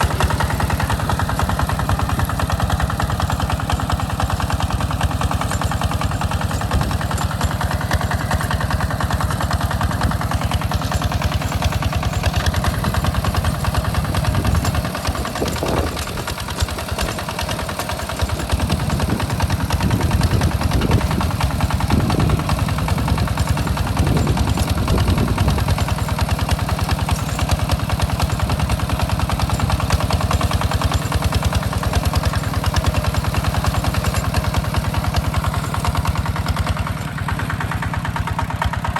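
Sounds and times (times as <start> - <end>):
hand tractor engine chugging: 0.0 - 38.9.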